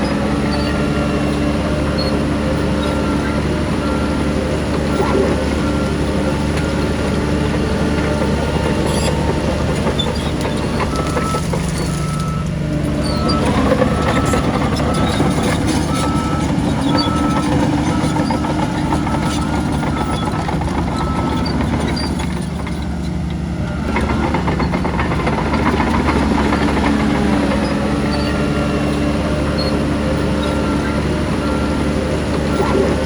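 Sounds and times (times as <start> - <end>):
reversing alarm beeping: 0.0 - 22.4, 24.8 - 33.0
heavy diesel machinery running: 0.0 - 33.0.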